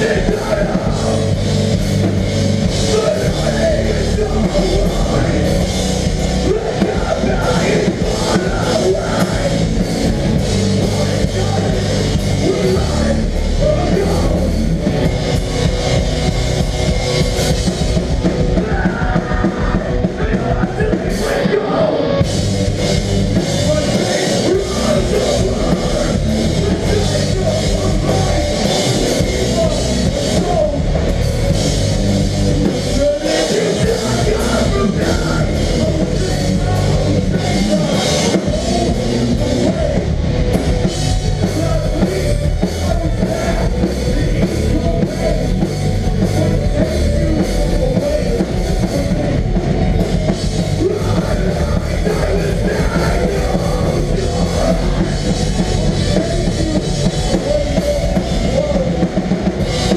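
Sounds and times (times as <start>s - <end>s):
hardcore band playing live: 0.0s - 59.9s.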